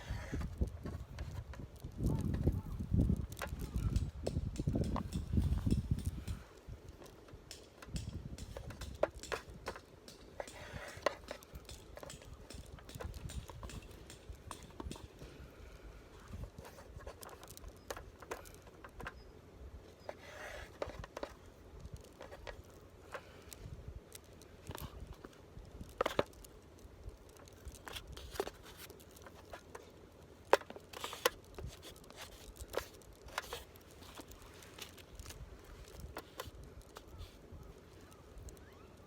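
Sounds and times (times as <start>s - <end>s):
rustling: 0.0s - 39.0s
objects clicking and knocking: 0.3s - 15.3s, 16.3s - 19.3s, 20.0s - 37.4s.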